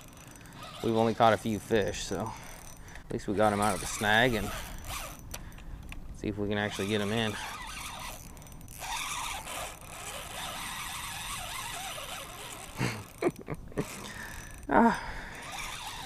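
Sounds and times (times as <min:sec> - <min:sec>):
fishing reel winding and drag: 0:00.0 - 0:16.0.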